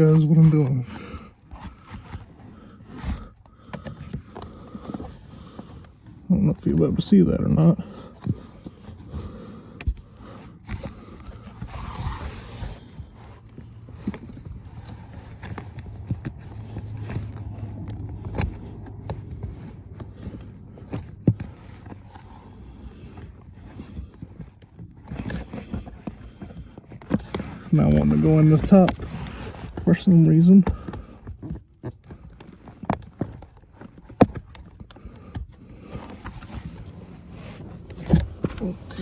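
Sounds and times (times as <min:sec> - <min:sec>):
filter frame scraping plastic: 0:00.0 - 0:39.0.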